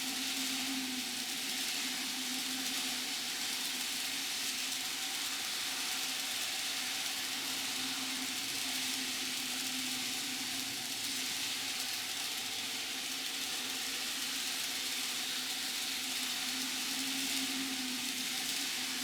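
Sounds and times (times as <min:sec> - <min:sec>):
small wheels hissing on rails: 0:00.0 - 0:19.0.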